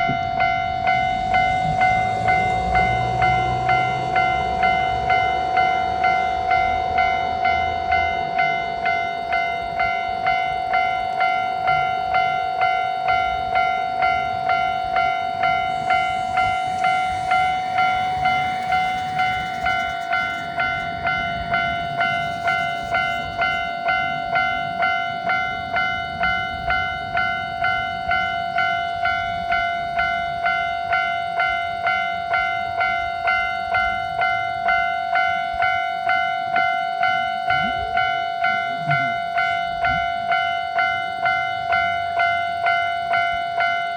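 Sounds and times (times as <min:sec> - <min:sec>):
level-crossing alarm bell ringing: 0:00.0 - 0:43.9
passing diesel railcar: 0:00.0 - 0:43.9.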